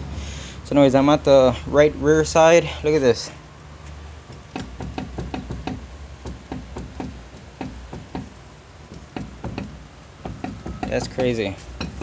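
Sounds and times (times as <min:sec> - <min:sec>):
wheel bearing clunking: 0:01.2 - 0:12.0.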